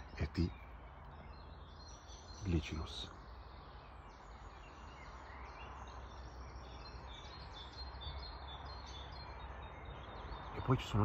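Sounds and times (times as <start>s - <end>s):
outdoor background hiss: 0.0s - 11.0s
small birds chirping and singing: 0.0s - 11.0s.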